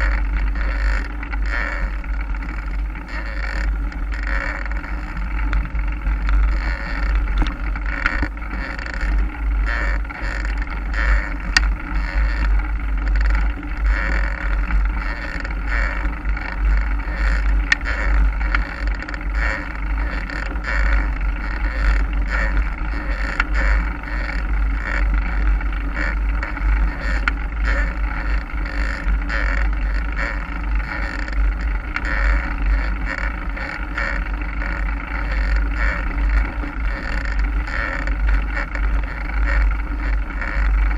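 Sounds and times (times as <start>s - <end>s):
bike rattling clicks: 0.0s - 34.8s
tyre noise on trail: 0.0s - 40.9s
wind rumble on microphone: 0.0s - 40.9s.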